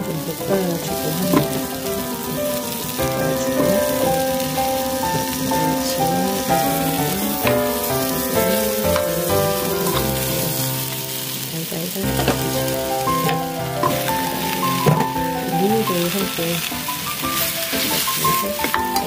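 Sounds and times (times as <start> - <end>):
background music melody: 0.0 - 19.0
food sizzling in a frying pan: 0.0 - 19.0.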